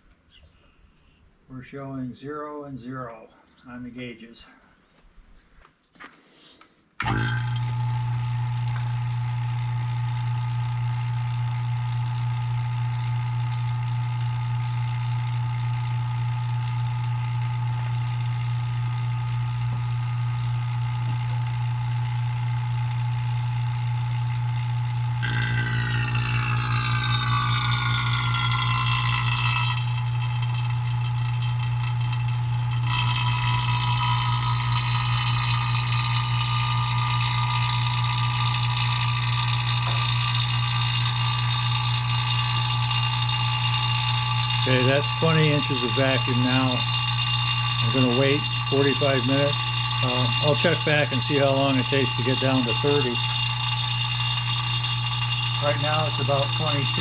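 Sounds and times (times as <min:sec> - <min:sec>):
vacuum pump humming: 0:07.0 - 0:57.0.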